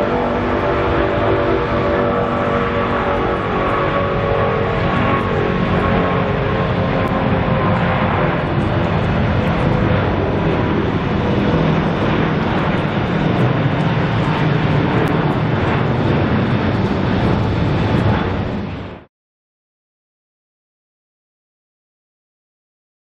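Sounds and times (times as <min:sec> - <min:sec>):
loud jet engine noise: 0:00.0 - 0:19.1.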